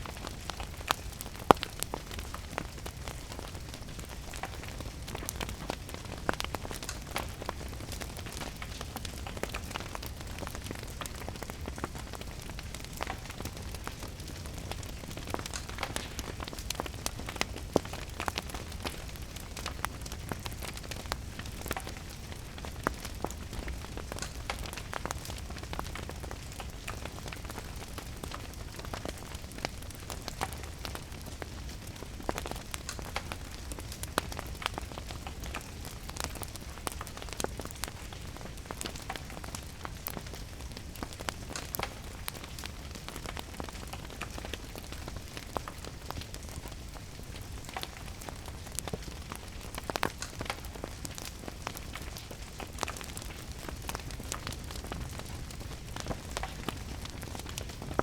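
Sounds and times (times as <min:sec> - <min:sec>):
steady rain: 0:00.0 - 0:58.0
wood fire crackling and popping: 0:00.0 - 0:58.0.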